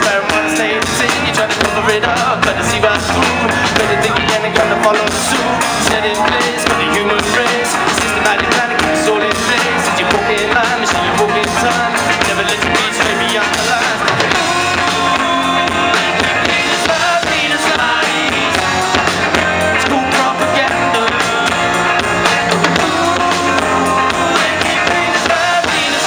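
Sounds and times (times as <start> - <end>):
acoustic guitar: 0.0 - 26.0
drums: 0.0 - 26.0
electric guitars: 0.0 - 26.0
keyboard: 0.0 - 26.0.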